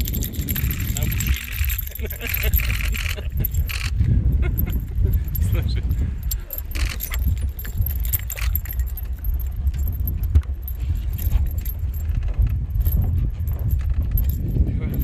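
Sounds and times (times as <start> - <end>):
fishing tackle clicking and rattling: 0.0 - 15.0
steady low rumble: 0.0 - 15.0.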